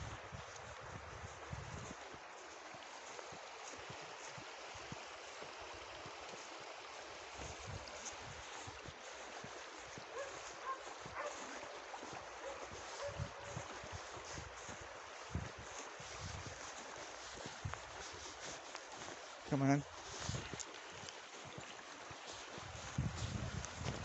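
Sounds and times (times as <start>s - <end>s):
river running over stones: 0.0s - 24.0s.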